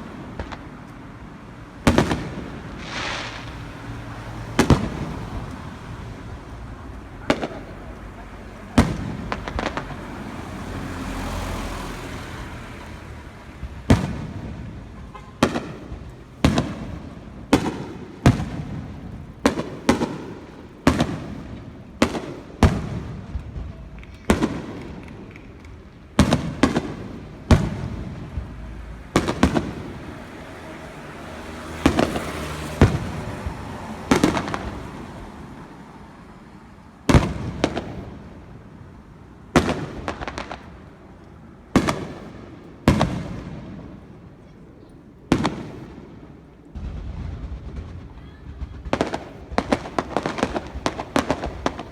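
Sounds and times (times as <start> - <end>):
fireworks booming with echo: 0.0 - 51.9.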